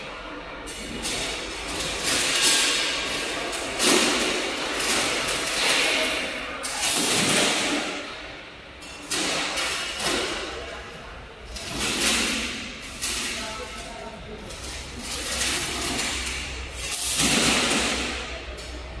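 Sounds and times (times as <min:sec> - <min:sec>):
metallic machine clatter: 0:00.6 - 0:08.0, 0:08.8 - 0:19.0.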